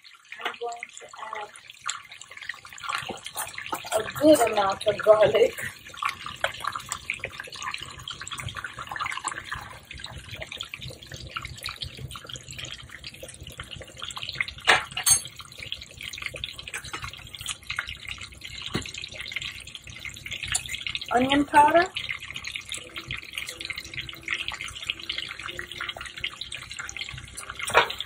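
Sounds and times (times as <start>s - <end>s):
butter and garlic sizzling in pan: 0.0s - 28.0s.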